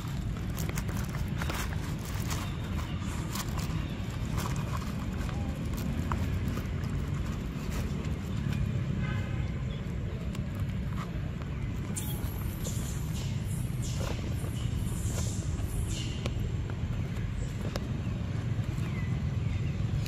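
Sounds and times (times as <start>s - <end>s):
dry leaves crackling: 0.0s - 20.0s.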